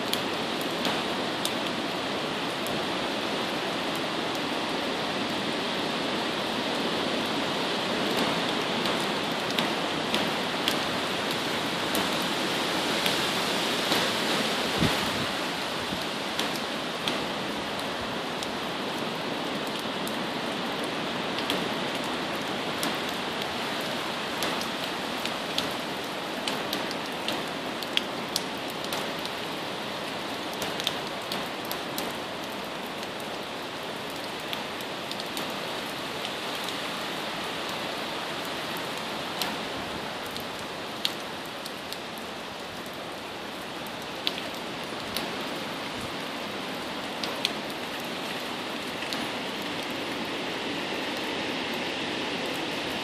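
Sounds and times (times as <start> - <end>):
heavy rain rushing: 0.0 - 53.0
raindrops ticking close by: 0.0 - 53.0
wind: 0.0 - 53.0.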